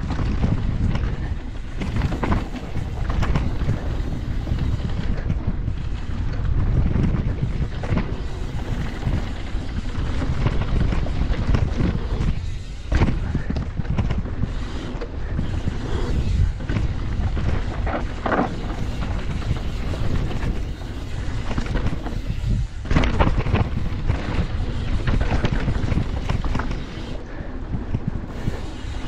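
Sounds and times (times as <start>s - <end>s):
tyre and frame rumble: 0.0s - 27.1s
wind buffeting microphone: 0.0s - 29.0s.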